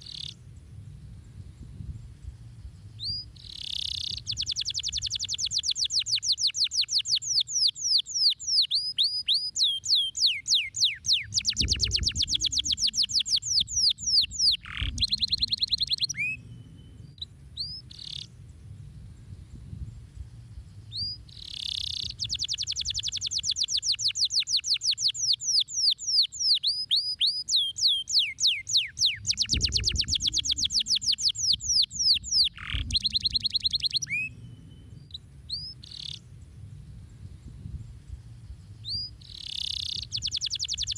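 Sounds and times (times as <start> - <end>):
canary singing: 0.0 - 0.4, 3.0 - 18.4, 20.9 - 36.3, 38.8 - 40.9.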